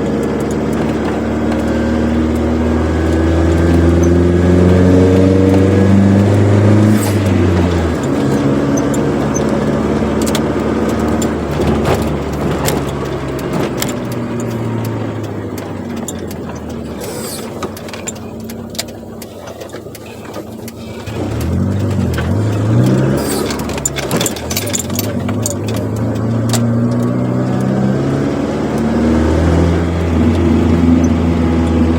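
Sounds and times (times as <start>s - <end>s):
car engine with sport exhaust: 0.0s - 31.9s.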